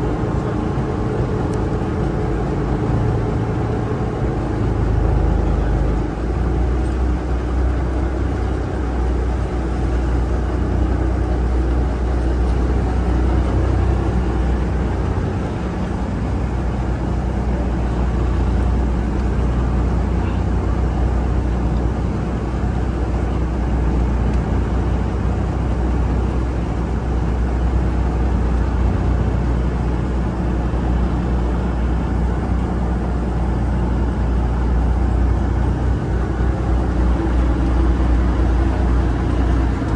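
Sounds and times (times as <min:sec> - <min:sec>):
ferry engine droning: 0:00.0 - 0:39.9.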